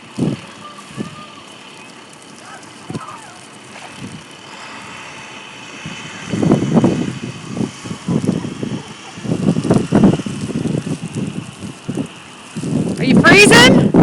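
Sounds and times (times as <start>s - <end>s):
wind buffeting microphone: 0.0s - 1.6s, 2.2s - 14.0s.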